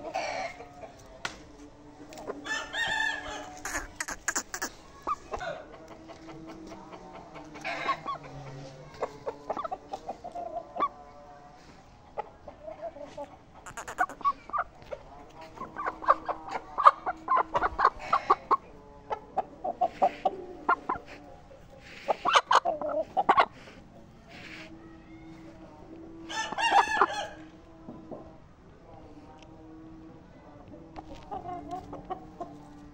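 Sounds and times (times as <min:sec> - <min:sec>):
chickens clucking: 0:00.0 - 0:29.5, 0:30.1 - 0:32.9.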